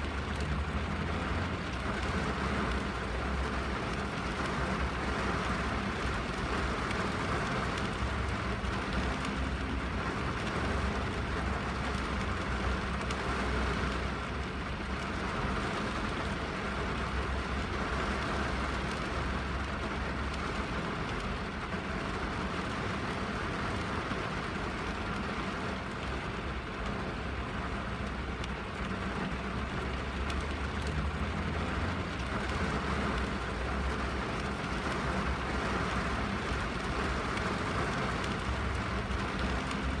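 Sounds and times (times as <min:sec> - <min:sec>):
low constant rumble: 0:00.0 - 0:40.0
rain on car roof and glass: 0:00.0 - 0:40.0.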